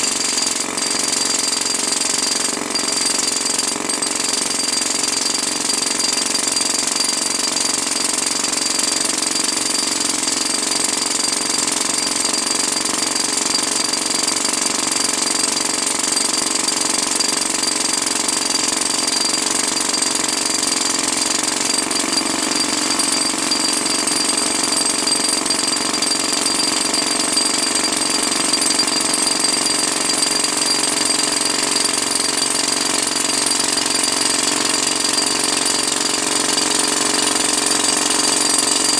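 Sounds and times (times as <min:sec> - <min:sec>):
hydraulic drill hammering: 0:00.0 - 0:38.9.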